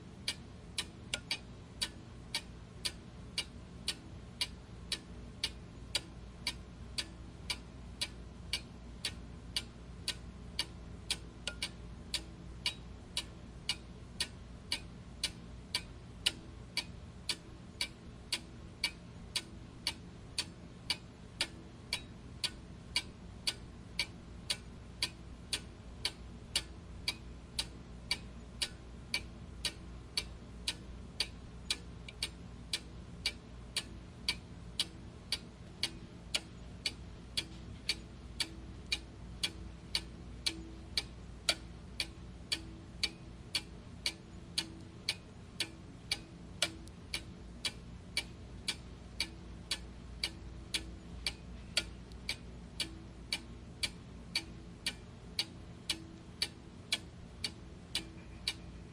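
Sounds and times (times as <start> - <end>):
faint low hum: 0.0 - 58.9
clock ticking: 0.2 - 58.8.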